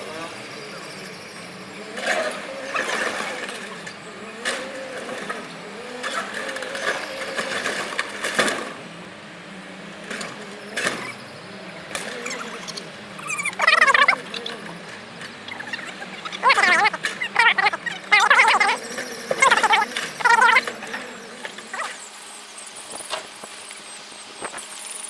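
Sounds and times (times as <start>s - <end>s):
forklift engine whining: 0.0s - 24.4s.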